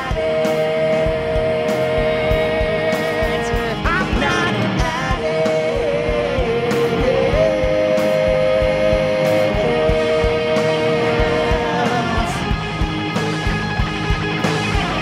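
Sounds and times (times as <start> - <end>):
man singing: 0.0 - 12.6
rock band playing: 0.0 - 15.0.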